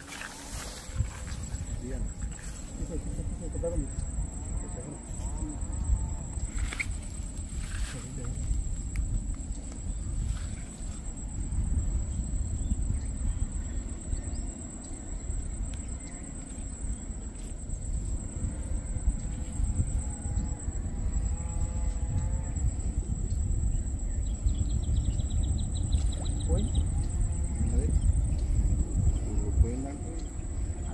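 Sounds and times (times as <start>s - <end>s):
high-pitched insect trill: 0.0s - 30.9s
wind rumble on microphone: 0.0s - 30.9s.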